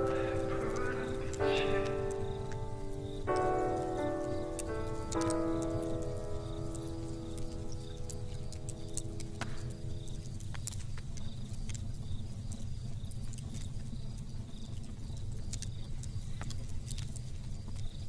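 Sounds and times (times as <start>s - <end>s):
campfire crackling and popping: 0.0s - 18.0s
crickets chirping: 0.0s - 18.0s.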